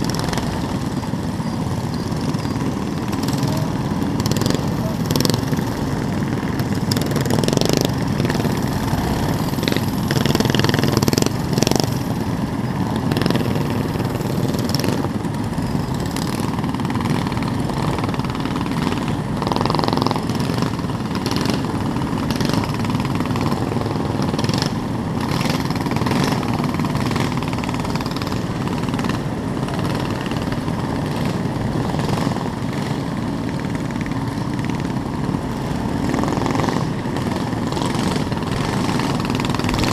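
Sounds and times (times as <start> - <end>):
mini bike engines running: 0.0 - 39.9.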